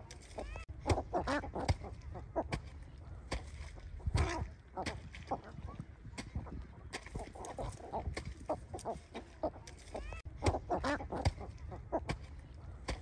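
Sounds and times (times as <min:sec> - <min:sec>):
birds clucking: 0:00.0 - 0:13.0.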